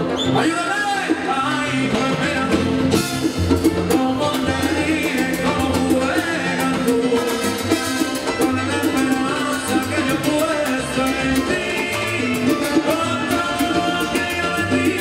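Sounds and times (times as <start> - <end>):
live salsa band playing: 0.0 - 15.0.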